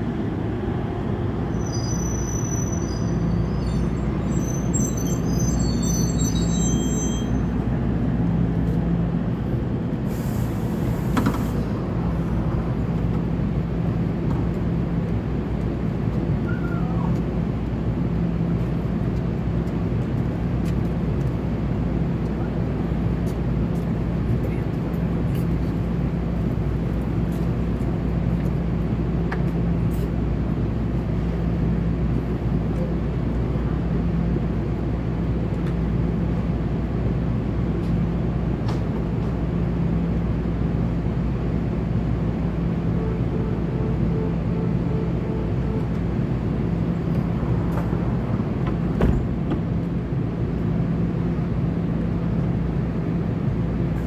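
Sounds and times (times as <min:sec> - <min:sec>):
train equipment humming: 0:00.0 - 0:54.0.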